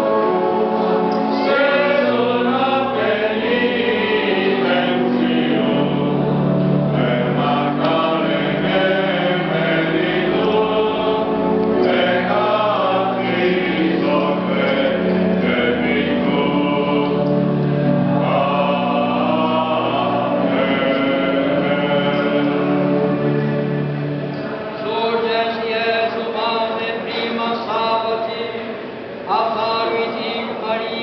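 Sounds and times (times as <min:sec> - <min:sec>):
choir chanting: 0:00.0 - 0:28.0.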